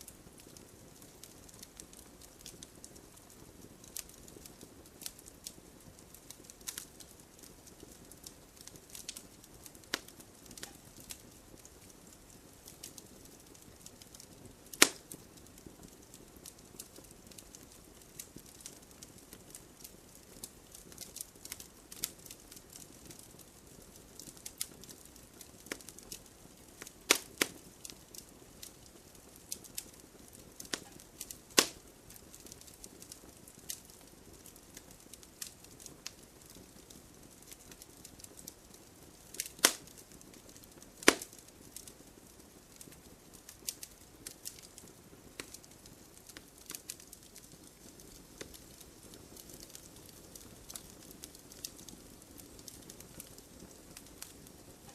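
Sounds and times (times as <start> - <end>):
campfire crackling: 0.0 - 54.9
fire pops and snaps: 0.0 - 54.9
soft steady hiss: 0.0 - 54.9.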